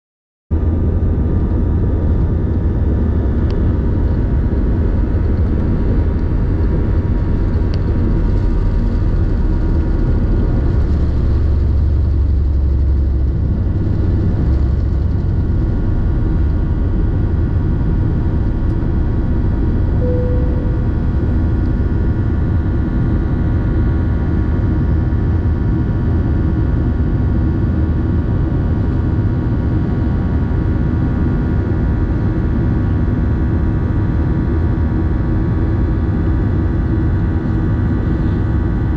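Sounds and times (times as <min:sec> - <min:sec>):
jet engines roaring from inside cabin: 0:00.5 - 0:38.9.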